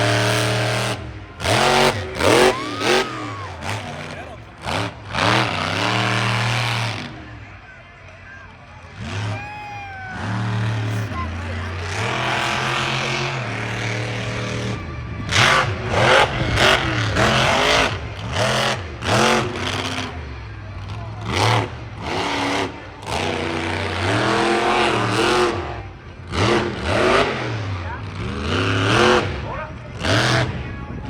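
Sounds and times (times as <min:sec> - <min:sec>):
engine revving: 0:00.0 - 0:07.6, 0:08.8 - 0:30.9.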